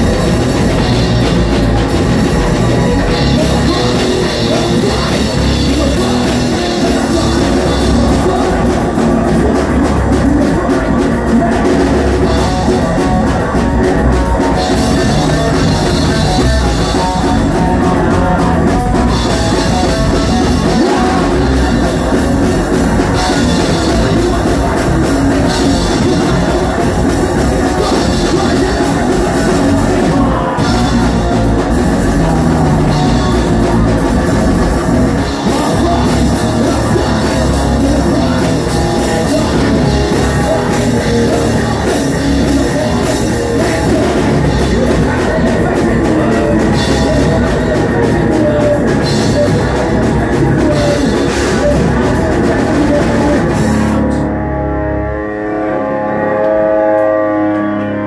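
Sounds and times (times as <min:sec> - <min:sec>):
drum kit: 0:00.0 - 0:54.2
bass guitar: 0:00.0 - 0:58.0
distorted electric guitar: 0:00.0 - 0:58.0.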